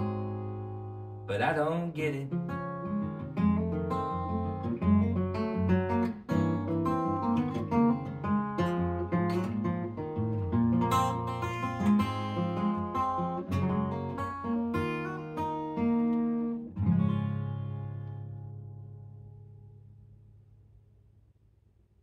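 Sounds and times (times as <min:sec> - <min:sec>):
solo acoustic guitar: 0:00.0 - 0:21.1.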